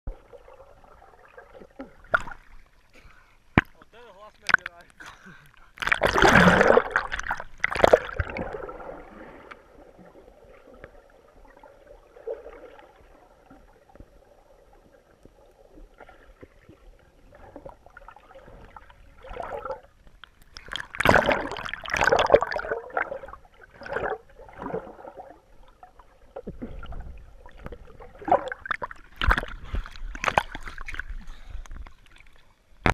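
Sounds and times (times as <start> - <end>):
water sloshing and splashing: 0.1 - 32.9.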